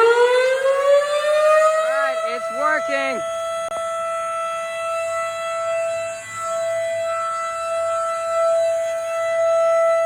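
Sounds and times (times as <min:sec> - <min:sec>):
tornado warning siren wail: 0:00.0 - 0:10.0.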